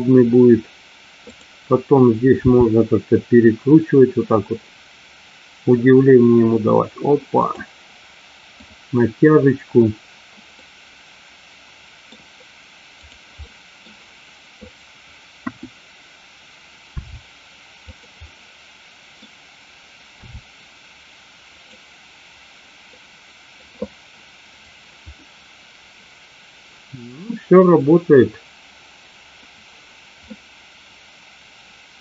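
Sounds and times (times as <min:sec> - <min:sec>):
microphone hiss: 0:00.0 - 0:32.0.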